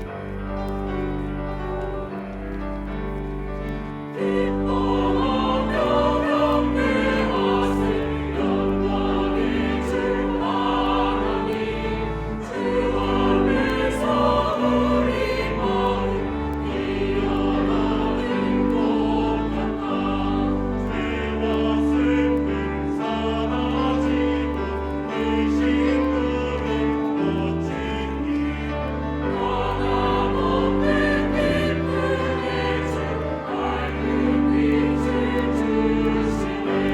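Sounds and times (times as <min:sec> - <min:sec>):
choir singing a hymn: 0:00.0 - 0:36.9
instrumental accompaniment: 0:00.0 - 0:36.9.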